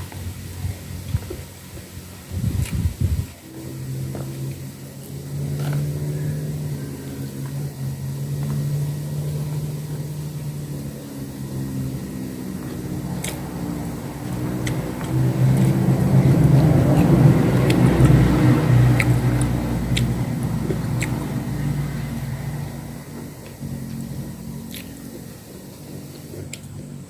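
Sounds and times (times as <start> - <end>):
low motor hum: 0.0 - 27.0.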